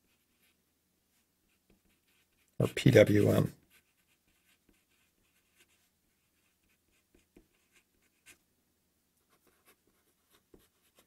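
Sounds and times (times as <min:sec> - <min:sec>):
marker scratching on paper: 0:00.0 - 0:08.4, 0:09.3 - 0:11.0.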